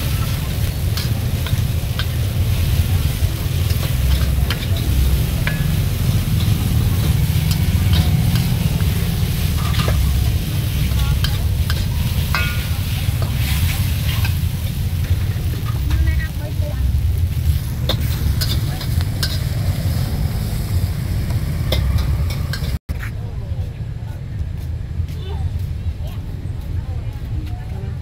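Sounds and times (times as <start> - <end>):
food sizzling: 0.0 - 22.8
metal ladle scraping wok: 0.0 - 22.8
steady low rumble: 0.0 - 28.0.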